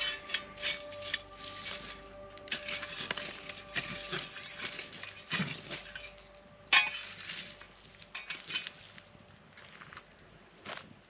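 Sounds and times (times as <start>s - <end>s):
metal tool scraping coals and rocks: 0.0s - 10.0s.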